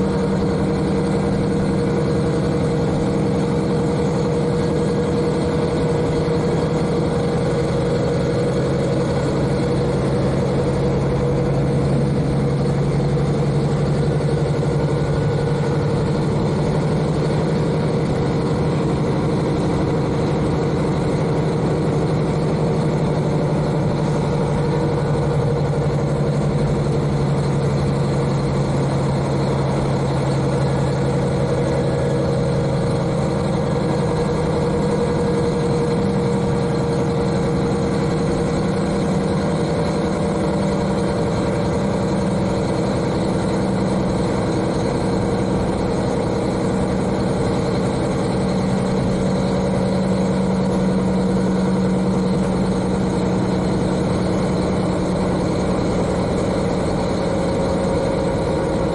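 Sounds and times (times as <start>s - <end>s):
diesel railcar engine running: 0.0s - 58.9s.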